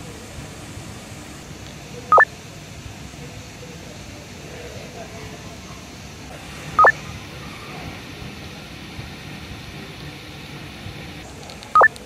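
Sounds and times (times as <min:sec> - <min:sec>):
shop background hum: 0:00.0 - 0:12.0.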